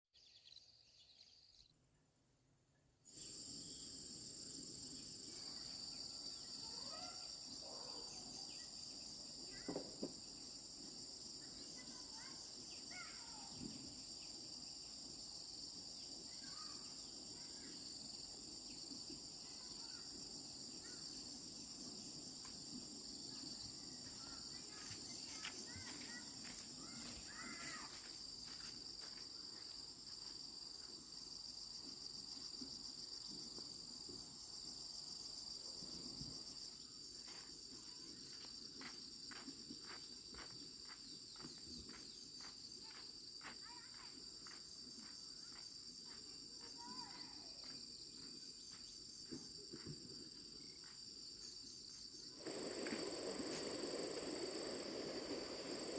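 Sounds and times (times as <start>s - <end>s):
high-pitched insect chorus: 3.1s - 55.9s.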